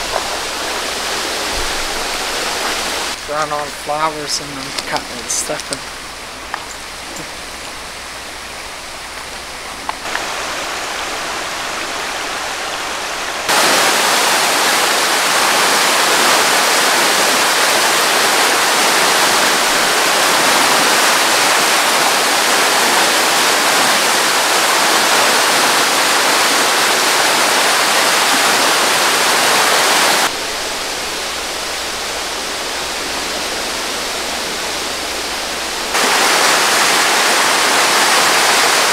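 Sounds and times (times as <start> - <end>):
floodwater rushing through creek: 0.0 - 38.9.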